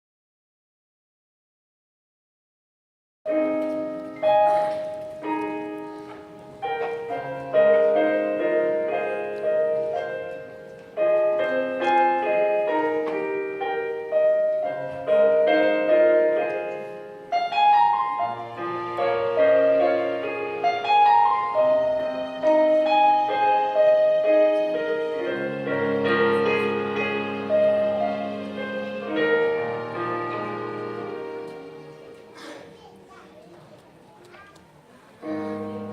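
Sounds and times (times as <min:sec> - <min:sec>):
piano playing chords: 0:03.3 - 0:33.1, 0:35.2 - 0:35.9.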